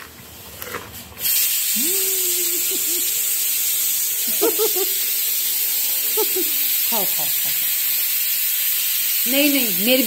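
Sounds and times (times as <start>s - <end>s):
loud steady hiss: 1.2s - 10.0s.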